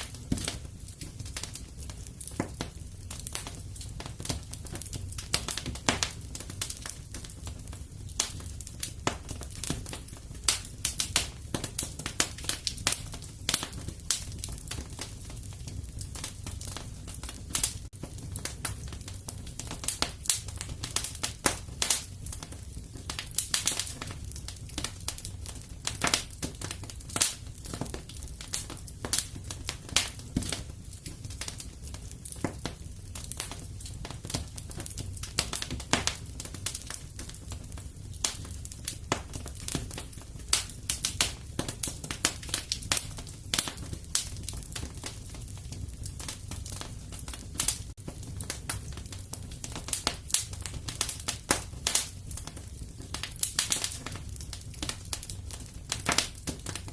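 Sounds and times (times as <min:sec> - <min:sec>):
fireplace fire crackling: 0:00.0 - 0:56.9.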